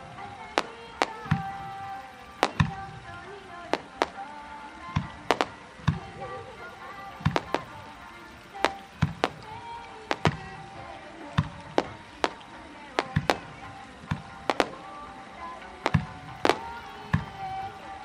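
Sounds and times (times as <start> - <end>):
faint music: 0.0 - 18.0
fireworks bursting with sharp bangs: 0.0 - 18.0.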